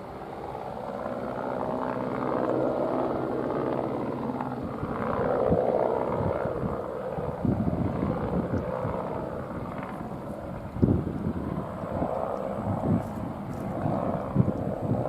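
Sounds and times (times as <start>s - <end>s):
distant helicopter rumble: 0.0s - 15.0s
wind buffeting microphone: 1.2s - 15.0s.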